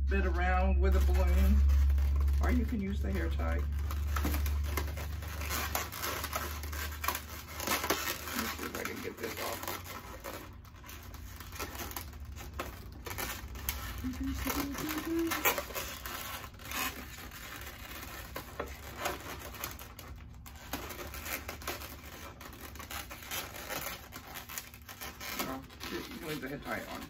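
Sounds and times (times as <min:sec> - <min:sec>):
rubber balloons squeaking: 0:00.0 - 0:27.0.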